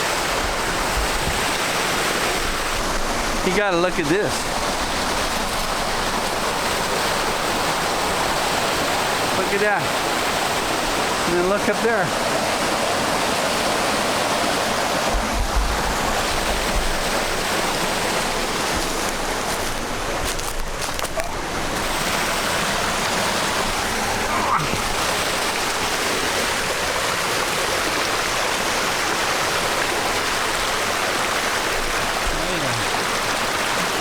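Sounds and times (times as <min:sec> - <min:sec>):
waterfall splashing over rock: 0:00.0 - 0:34.0.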